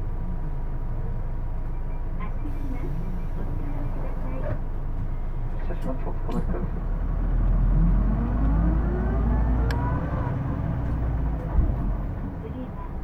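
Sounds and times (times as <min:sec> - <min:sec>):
bus engine rumble with rising whine: 0:00.0 - 0:13.0.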